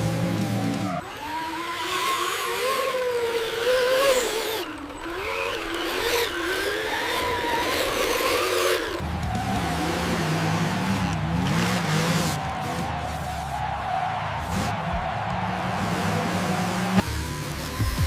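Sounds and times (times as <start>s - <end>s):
racing motor revving whine: 0.0s - 18.0s.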